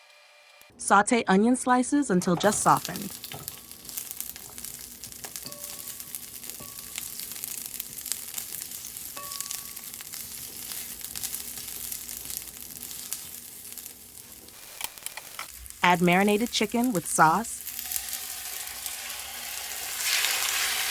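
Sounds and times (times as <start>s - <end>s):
onion sizzling in hot oil: 2.2s - 20.9s.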